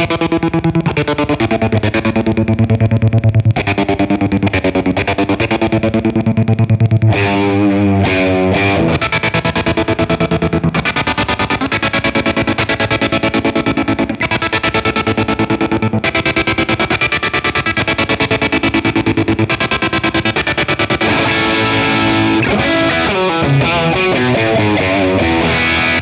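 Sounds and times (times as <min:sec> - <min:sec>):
chopped distorted electric guitar: 0:00.0 - 0:26.0.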